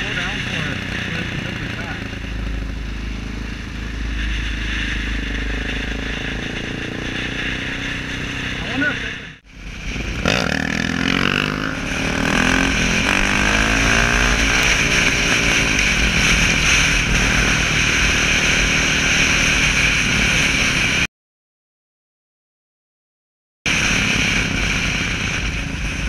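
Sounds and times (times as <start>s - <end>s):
motorcycle engine revving: 0.0s - 21.1s
wind rush on microphone: 0.0s - 21.1s, 23.7s - 26.0s.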